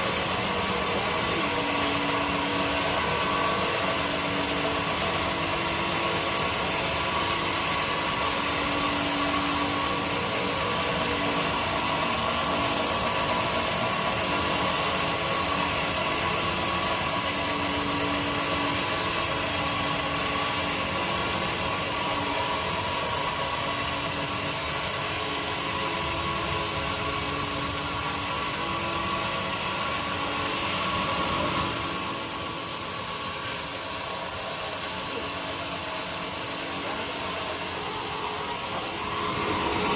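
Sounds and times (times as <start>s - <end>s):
power tool motor whine: 0.0s - 39.9s.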